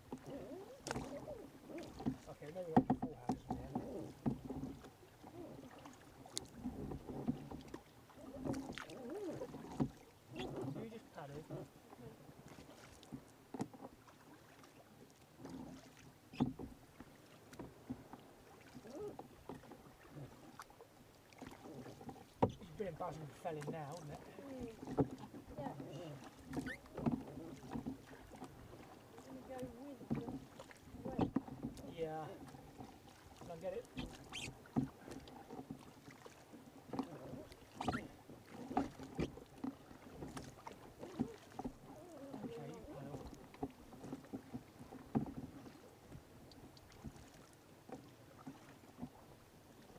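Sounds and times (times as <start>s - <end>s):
paddle splashing water: 0.0s - 49.9s.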